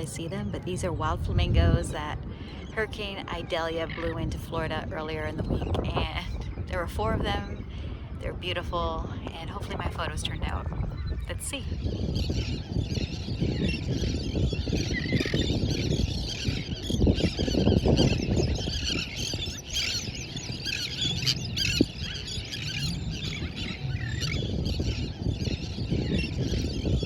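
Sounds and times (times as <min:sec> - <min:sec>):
wind rumble: 0:00.0 - 0:27.0.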